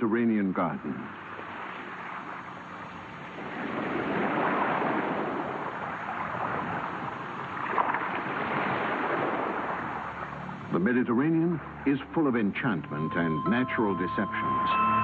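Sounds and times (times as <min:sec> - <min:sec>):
sea waves washing in: 0:00.1 - 0:15.0.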